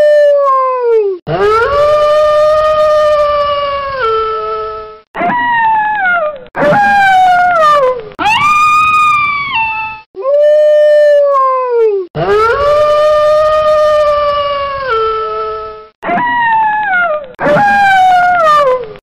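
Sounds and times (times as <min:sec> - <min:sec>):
wolf howling: 0:01.3 - 0:19.0.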